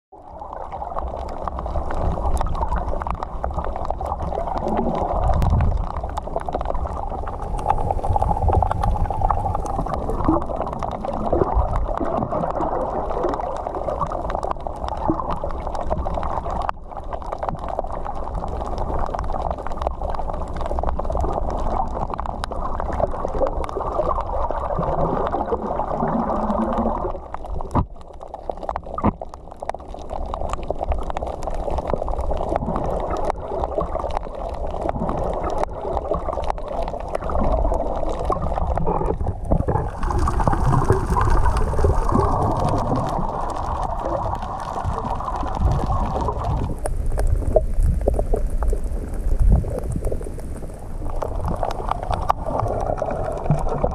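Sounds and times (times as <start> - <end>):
muffled underwater rushing: 0.1 - 53.9.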